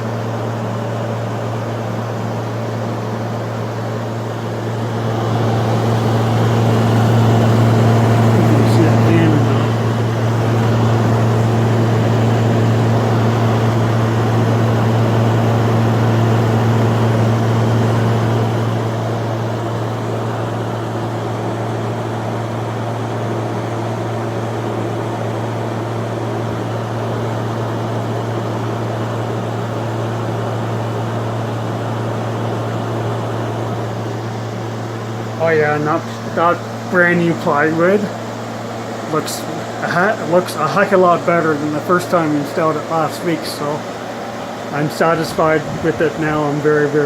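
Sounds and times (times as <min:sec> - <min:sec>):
compressor low hum: 0:00.0 - 0:47.0
condenser fan rushing: 0:00.0 - 0:47.0.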